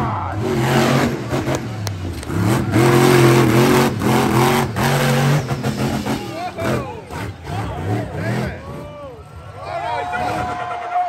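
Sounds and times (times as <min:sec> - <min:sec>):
truck engine revving hard: 0:00.0 - 0:09.4.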